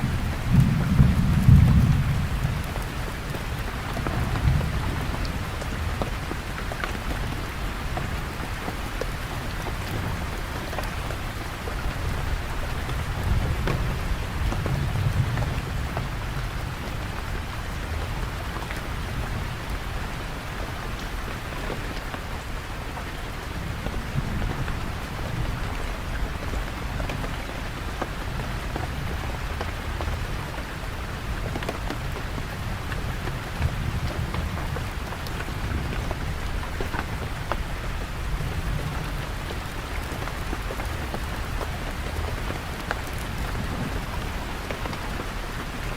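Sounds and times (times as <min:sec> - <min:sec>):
steady rain with drop impacts: 0:00.0 - 0:45.9.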